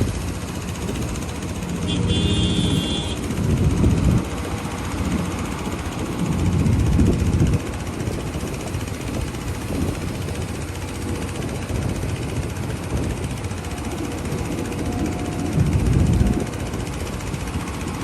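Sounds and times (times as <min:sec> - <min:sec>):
earthmoving machine diesel engine: 0:00.0 - 0:18.0.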